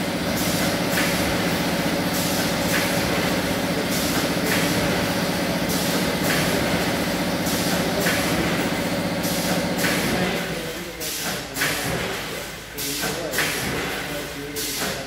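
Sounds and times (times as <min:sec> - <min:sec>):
machine motor hum: 0:00.0 - 0:12.6.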